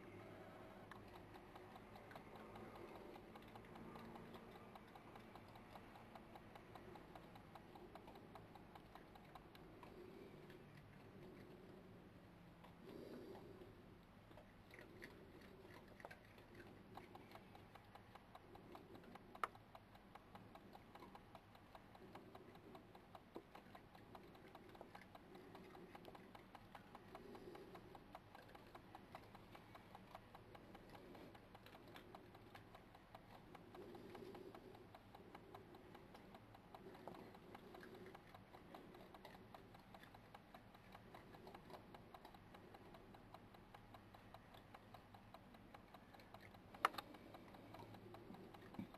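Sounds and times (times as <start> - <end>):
animals chewing with crisp crunches: 0.0 - 48.9.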